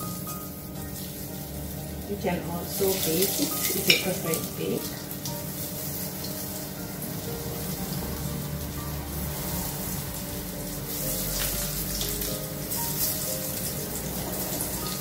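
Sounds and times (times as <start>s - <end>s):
background music: 0.0s - 15.0s
oil sizzling in a frying pan: 0.0s - 15.0s.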